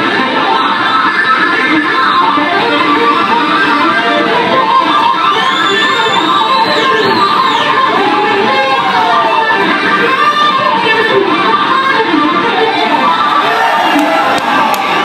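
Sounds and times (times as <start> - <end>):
picked lead guitar: 0.0 - 15.0
strummed rhythm guitar: 0.0 - 15.0.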